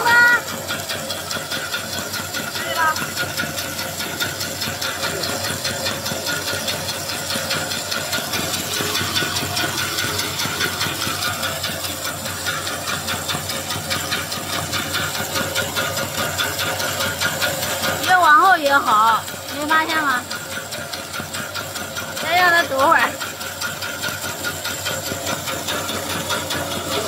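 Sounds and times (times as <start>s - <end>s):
extruder machine droning: 0.0s - 27.0s.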